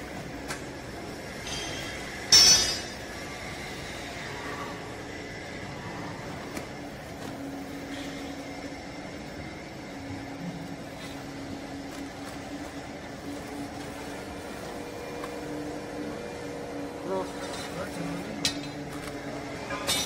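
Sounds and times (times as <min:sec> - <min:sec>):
hydraulic power unit hum: 0:00.0 - 0:20.0.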